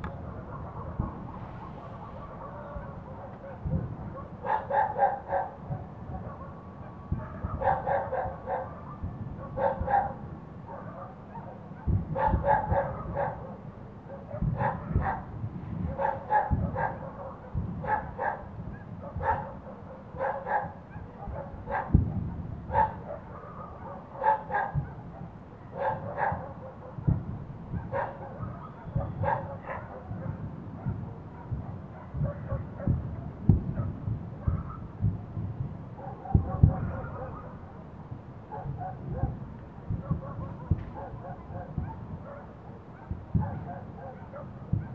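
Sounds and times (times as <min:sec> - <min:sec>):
dog barking: 0:00.3 - 0:34.9, 0:36.0 - 0:37.8, 0:38.5 - 0:44.9.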